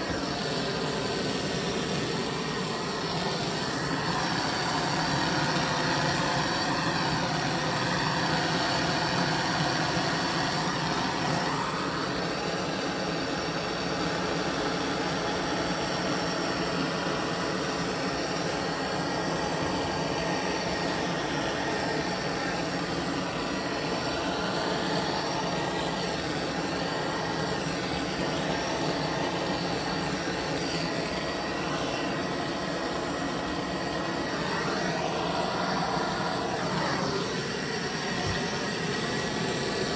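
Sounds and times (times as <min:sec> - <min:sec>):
gas torch hissing: 0:00.0 - 0:39.9.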